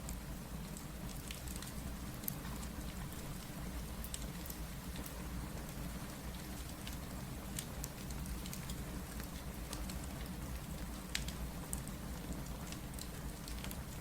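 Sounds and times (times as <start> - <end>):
steady rain: 0.0 - 14.0
wood fire crackling and popping: 0.0 - 14.0.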